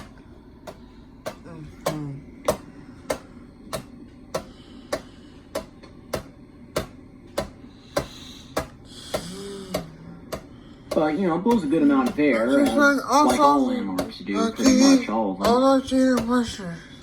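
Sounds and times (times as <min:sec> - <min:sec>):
wobbling ceiling fan clicking: 0:00.0 - 0:16.7
ceiling fan low hum: 0:00.0 - 0:17.0.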